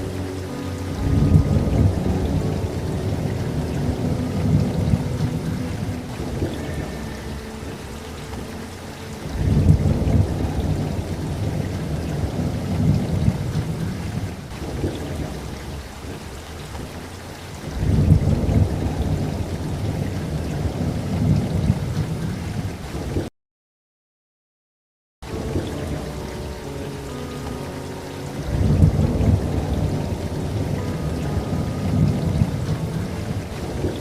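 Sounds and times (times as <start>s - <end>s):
steady rain: 0.0s - 23.3s, 25.2s - 34.0s
low rolls of thunder: 0.9s - 23.3s, 28.4s - 34.0s.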